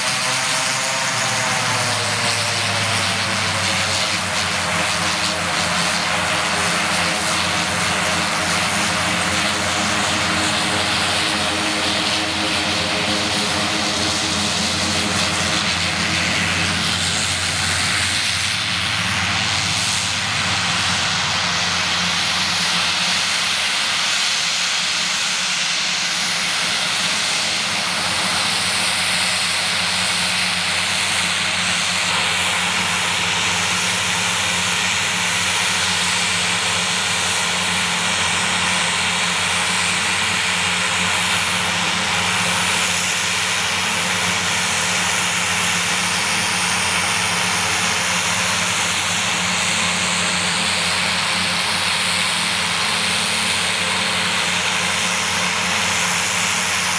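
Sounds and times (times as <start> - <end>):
turboprop engines idling: 0.0 - 56.9.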